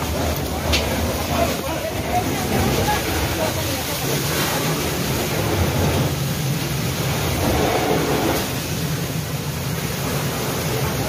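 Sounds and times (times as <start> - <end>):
fire engine pump rumbling: 0.0 - 11.0.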